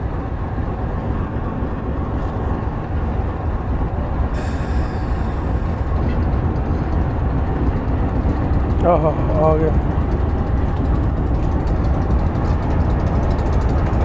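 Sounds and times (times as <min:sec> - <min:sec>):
locomotive engine rumble: 0:00.0 - 0:14.0.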